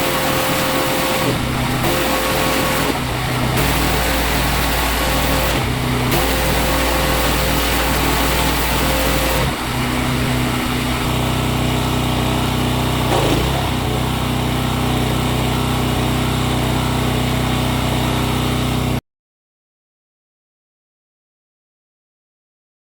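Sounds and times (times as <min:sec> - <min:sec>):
motor running with a hum: 0:00.0 - 0:19.0.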